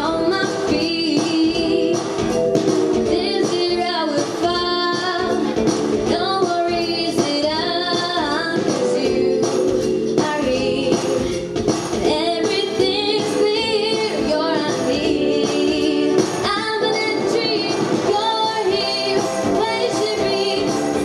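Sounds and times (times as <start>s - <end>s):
young woman singing pop song: 0.0s - 2.3s, 2.9s - 21.0s
instrumental accompaniment: 0.0s - 21.0s.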